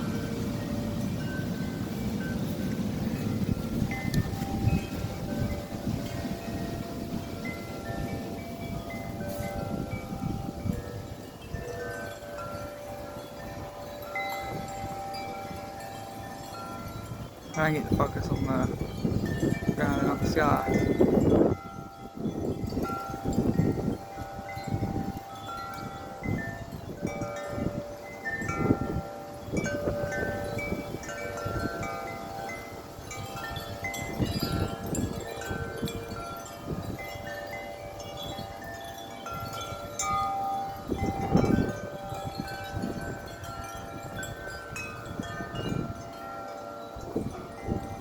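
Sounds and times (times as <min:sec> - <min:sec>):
gusty wind rushing: 0:00.0 - 0:38.6
wind chimes ringing: 0:00.0 - 0:48.0.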